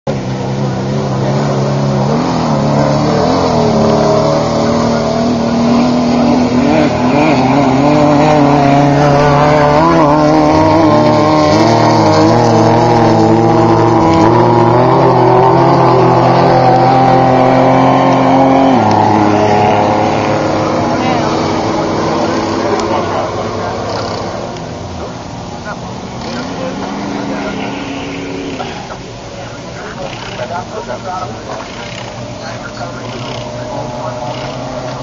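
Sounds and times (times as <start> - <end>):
race car engine revving: 0.1 - 35.0.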